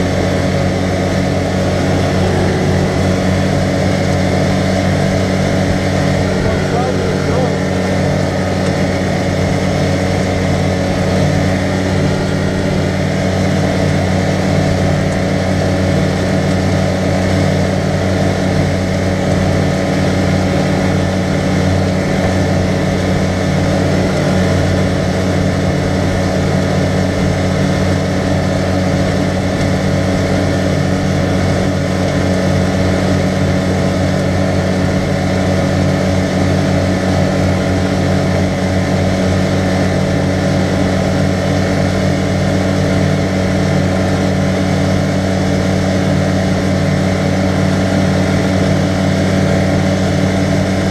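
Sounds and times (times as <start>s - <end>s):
utility vehicle engine running: 0.0s - 50.9s.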